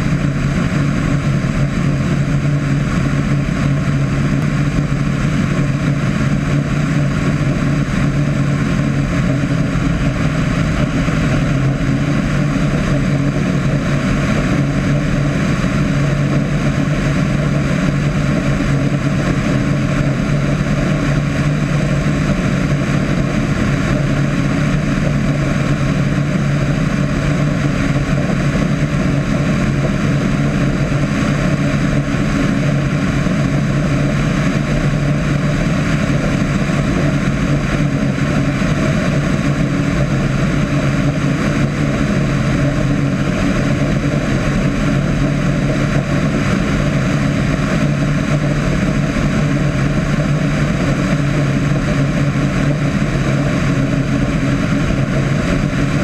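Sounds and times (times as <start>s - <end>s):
propeller plane engine droning: 0.0s - 56.0s
wind rushing over microphone: 0.0s - 56.0s.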